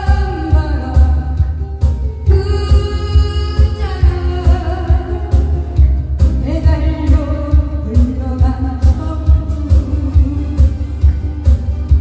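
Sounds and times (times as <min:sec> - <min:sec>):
acoustic guitar: 0:00.0 - 0:12.0
steady low beat: 0:00.0 - 0:12.0
woman singing into microphone: 0:00.0 - 0:12.0.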